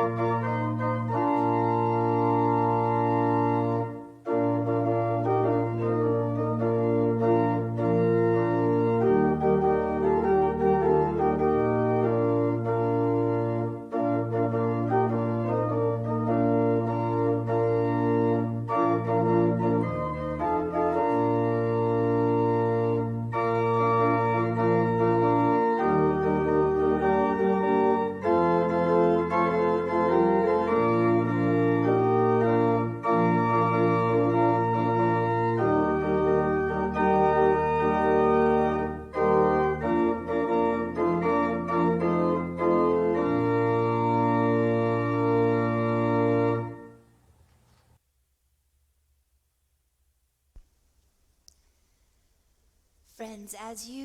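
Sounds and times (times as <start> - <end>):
organ playing slow chords: 0.0 - 47.1.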